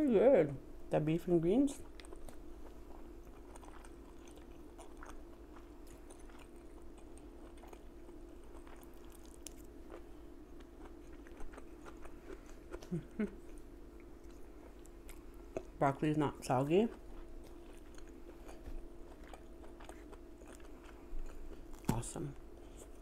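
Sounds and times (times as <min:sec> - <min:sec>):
faint steady hum: 0:00.0 - 0:23.0
chewing and crunching: 0:01.7 - 0:23.0.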